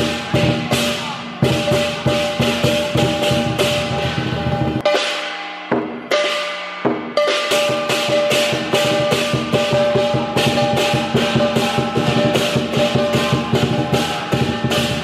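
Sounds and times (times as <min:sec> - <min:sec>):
big drum fast roll: 0:00.0 - 0:15.0
cymbals clashing: 0:00.0 - 0:15.0.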